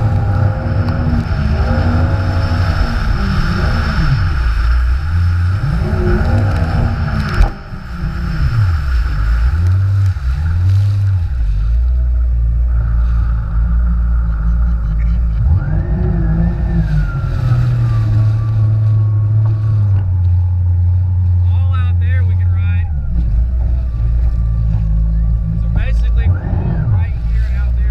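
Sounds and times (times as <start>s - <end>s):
jet ski engine revving: 0.0s - 27.9s.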